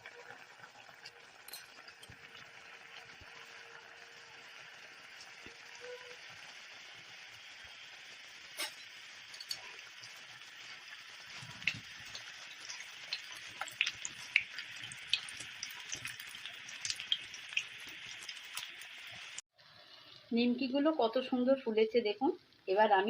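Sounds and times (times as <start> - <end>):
dough sizzling in hot oil: 0.0 - 23.0.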